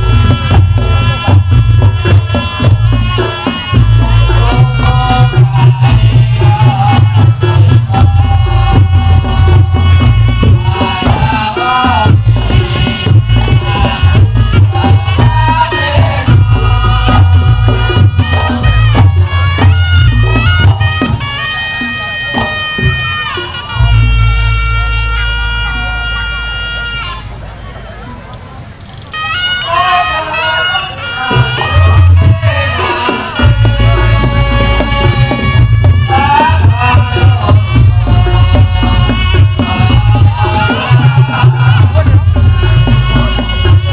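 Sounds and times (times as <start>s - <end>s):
heavy booming bass: 0.0s - 21.2s, 23.7s - 27.0s, 31.3s - 43.9s
rattling percussion: 0.0s - 27.3s, 30.6s - 43.9s
drums beating: 0.0s - 43.9s
shawm melody: 0.0s - 43.9s.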